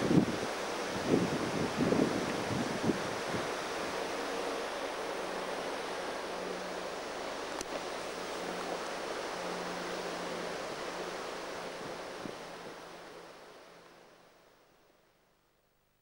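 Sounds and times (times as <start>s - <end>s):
wind on microphone: 0.0s - 13.3s.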